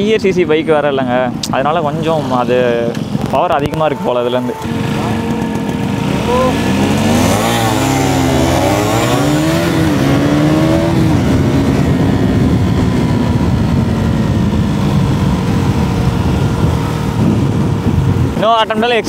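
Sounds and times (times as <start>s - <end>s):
wind noise on microphone: 1.1s - 19.0s
motorcycle engine running: 3.0s - 18.8s.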